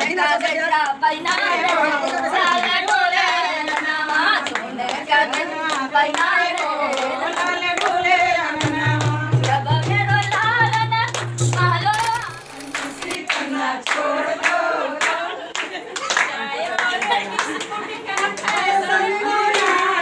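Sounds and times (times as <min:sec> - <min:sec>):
rhythmic hand clapping: 0:00.0 - 0:20.0
women singing together: 0:00.0 - 0:20.0.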